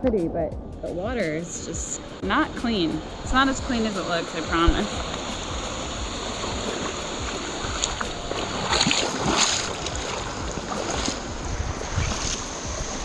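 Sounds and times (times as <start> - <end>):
wind rumbling on microphone: 1.0 - 13.0.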